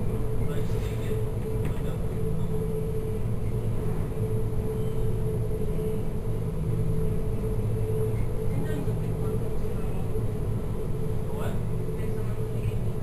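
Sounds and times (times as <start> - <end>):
ship engine droning: 0.0 - 13.0.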